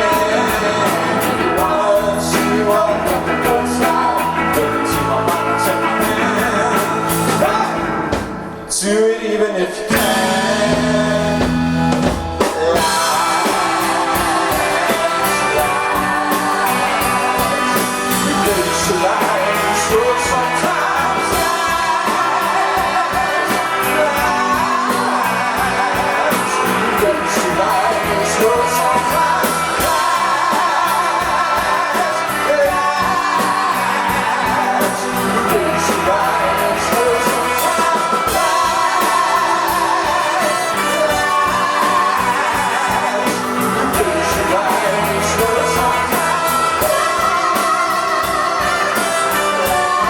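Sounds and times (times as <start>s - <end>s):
live rock band playing: 0.0s - 9.0s, 9.7s - 50.0s
guitar: 0.0s - 50.0s.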